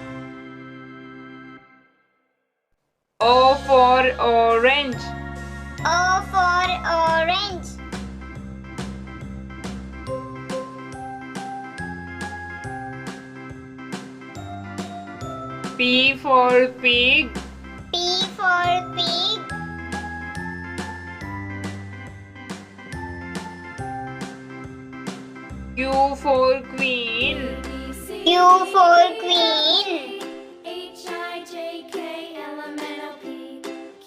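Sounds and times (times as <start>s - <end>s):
children's song backing music: 0.0s - 1.6s, 3.2s - 34.0s.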